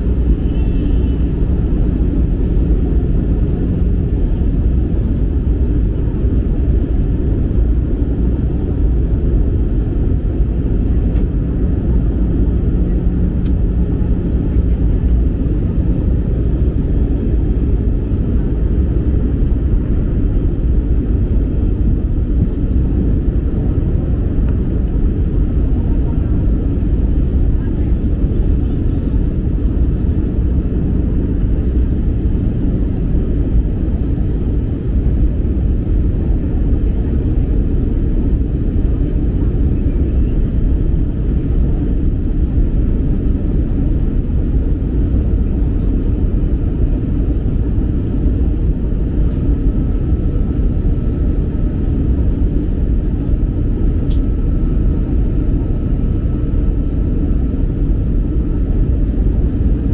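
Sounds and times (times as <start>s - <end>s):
jet engines rumbling: 0.0s - 59.9s.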